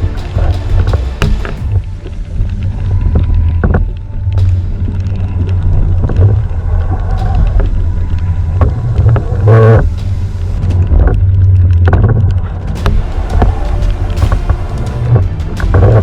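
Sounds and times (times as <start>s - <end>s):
water noise: 0.0s - 16.0s
wind rumbling on microphone: 0.0s - 16.0s.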